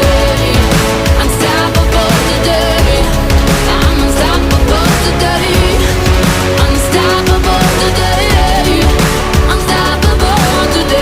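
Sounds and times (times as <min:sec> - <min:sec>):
produced music track with beat: 0:00.0 - 0:11.0.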